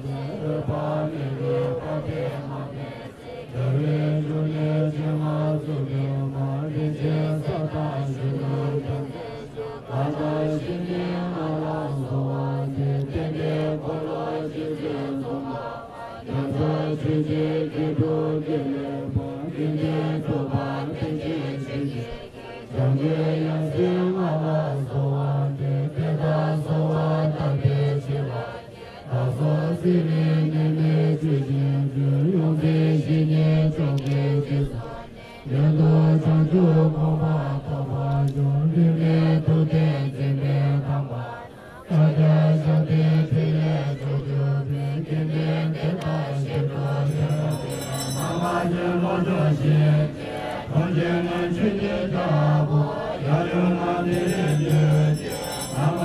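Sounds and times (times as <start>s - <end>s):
group chanting prayers: 0.0s - 56.0s.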